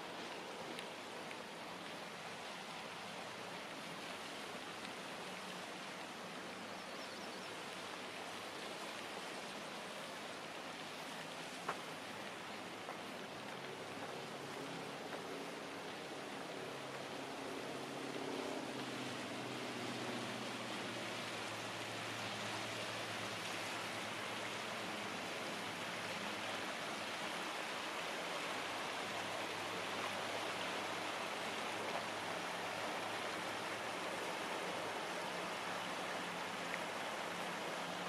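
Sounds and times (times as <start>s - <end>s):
creek water rushing: 0.0s - 38.0s.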